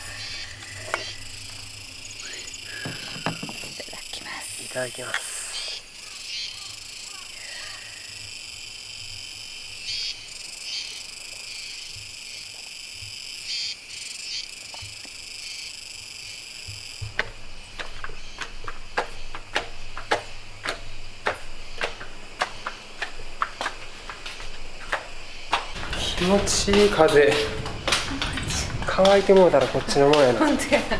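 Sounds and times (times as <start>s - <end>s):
insects chirring: 0.0s - 30.9s.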